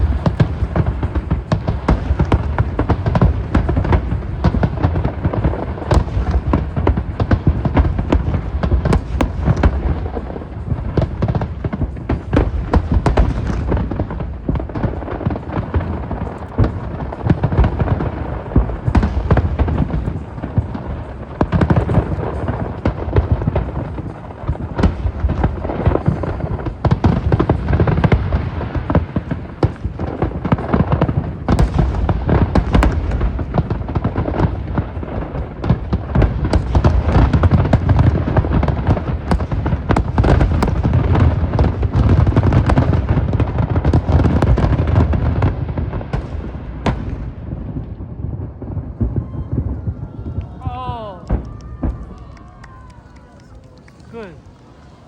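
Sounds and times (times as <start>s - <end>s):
deep fireworks booms: 0.0s - 55.0s
fireworks bangs and crackles: 0.0s - 55.0s.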